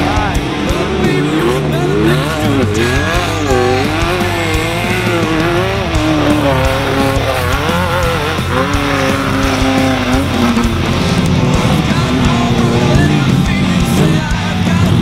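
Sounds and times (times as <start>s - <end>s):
engine revving: 0.0s - 15.0s
rock music: 0.0s - 15.0s.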